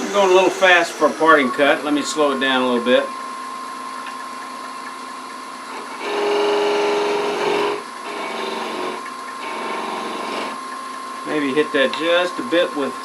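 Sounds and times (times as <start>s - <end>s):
tool cutting spinning wood: 0.0s - 3.1s, 4.2s - 13.0s
wood lathe humming: 0.0s - 3.3s, 4.2s - 13.0s.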